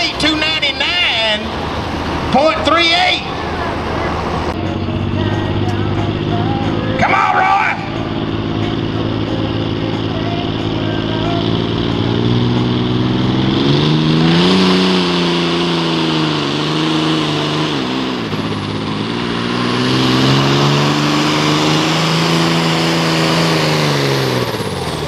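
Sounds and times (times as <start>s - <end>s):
tractor diesel engine at full power: 0.0s - 25.0s.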